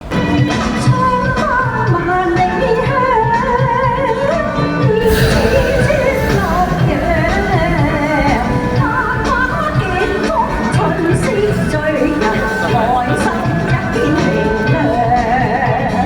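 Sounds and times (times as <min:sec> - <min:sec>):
pop song with sung melody: 0:00.0 - 0:16.0.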